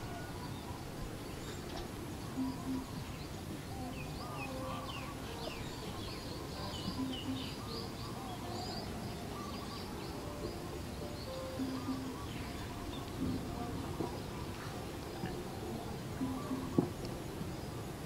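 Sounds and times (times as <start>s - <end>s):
birds chirping and singing: 0.0s - 17.9s
steady outdoor hiss: 0.0s - 18.0s.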